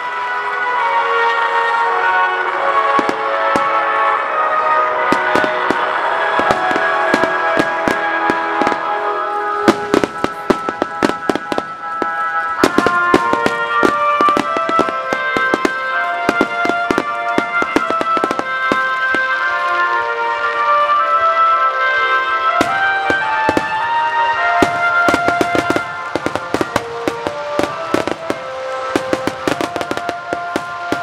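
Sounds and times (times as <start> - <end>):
fireworks bursting and crackling: 0.0 - 31.0
music with sustained notes: 0.0 - 31.0.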